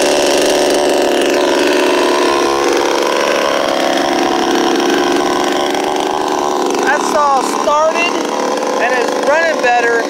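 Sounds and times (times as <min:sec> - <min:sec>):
chainsaw running steadily: 0:00.0 - 0:10.0.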